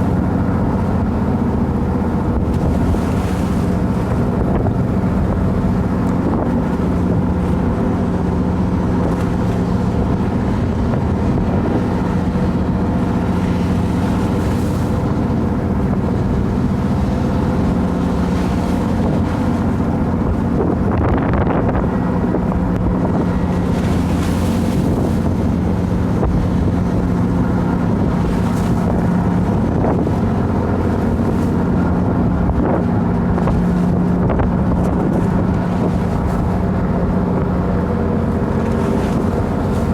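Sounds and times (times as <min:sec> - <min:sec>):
boat engine humming: 0:00.0 - 0:39.9
wind buffeting microphone: 0:00.0 - 0:39.9.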